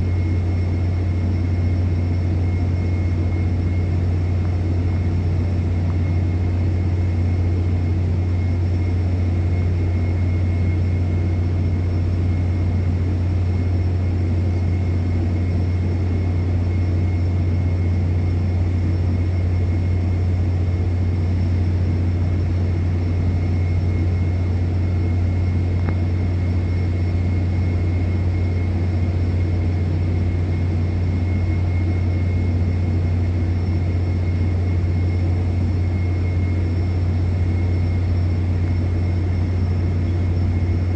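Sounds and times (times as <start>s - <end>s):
faint high whine: 0.0s - 40.9s.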